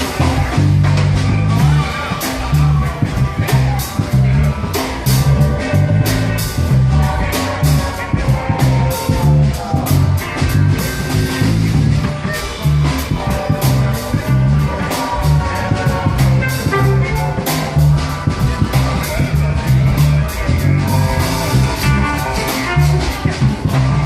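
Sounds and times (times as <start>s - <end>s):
bass: 0.0s - 24.0s
drum kit beat: 0.0s - 24.0s
electric guitar lines: 0.0s - 24.0s.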